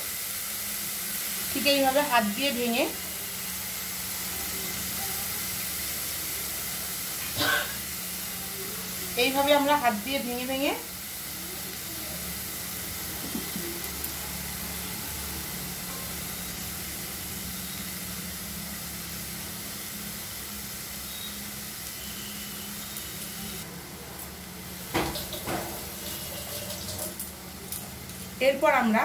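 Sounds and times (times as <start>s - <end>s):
filling sizzling in a pan: 0.0s - 29.0s.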